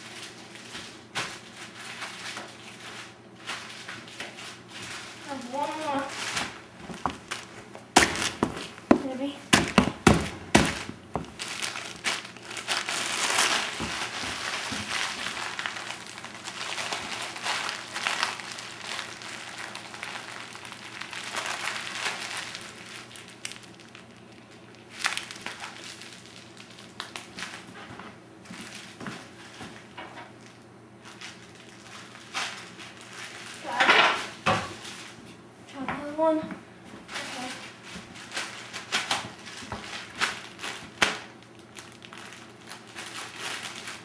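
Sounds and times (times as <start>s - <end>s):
plastic packing bags crinkling: 0.0s - 35.2s, 37.1s - 44.0s.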